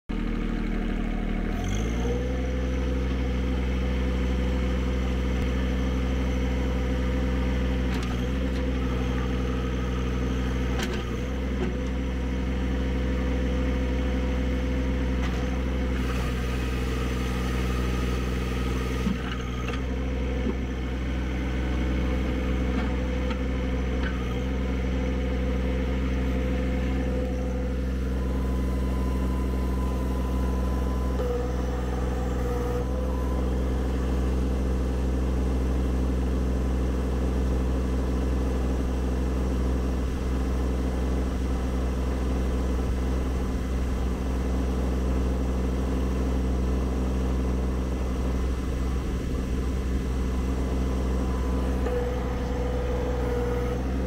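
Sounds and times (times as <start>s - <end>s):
diesel tractor engine revving: 0.2s - 54.0s.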